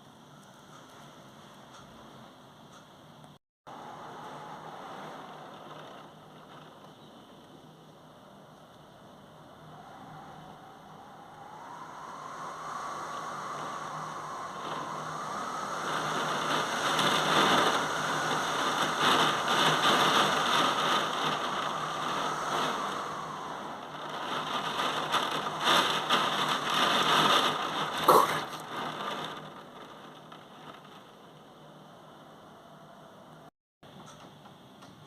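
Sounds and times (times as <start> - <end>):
heavy rain downpour: 3.7 - 33.5.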